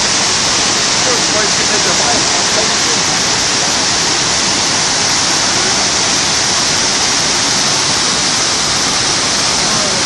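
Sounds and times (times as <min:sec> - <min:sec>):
waterfall pouring: 0:00.0 - 0:10.0.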